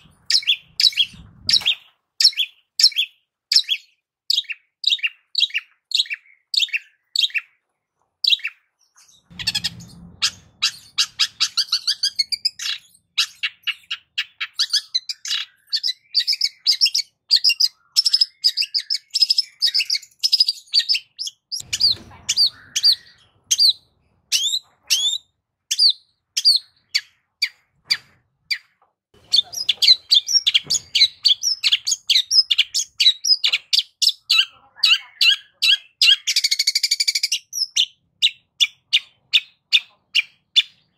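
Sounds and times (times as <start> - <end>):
bird singing chattering notes: 0.0 - 7.6, 8.2 - 27.7, 28.5 - 40.9.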